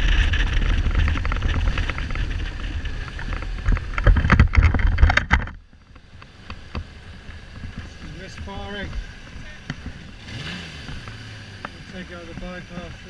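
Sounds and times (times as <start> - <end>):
low motorcycle rumble: 0.0 - 13.0
wind buffeting microphone: 0.0 - 13.0.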